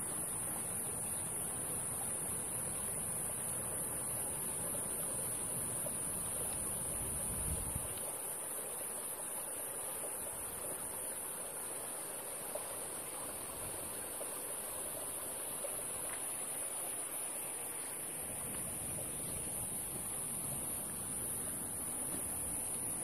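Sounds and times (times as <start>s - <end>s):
high-pitched hiss: 0.0s - 23.0s
stream running over rocks: 0.0s - 23.0s.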